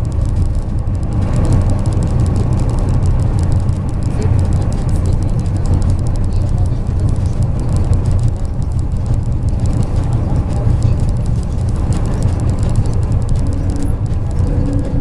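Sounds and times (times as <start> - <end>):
bus engine and road rumble: 0.0 - 15.0
faint steady whine: 0.0 - 15.0.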